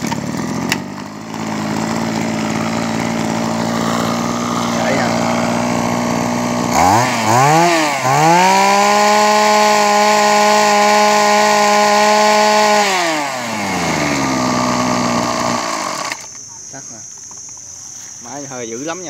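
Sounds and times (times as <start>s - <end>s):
brush cutter engine revving: 0.0s - 16.4s.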